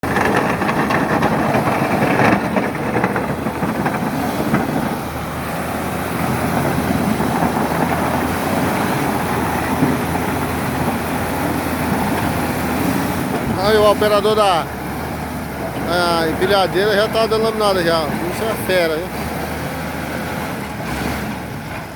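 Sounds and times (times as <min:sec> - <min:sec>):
heavy machinery engine running: 0:00.0 - 0:21.9.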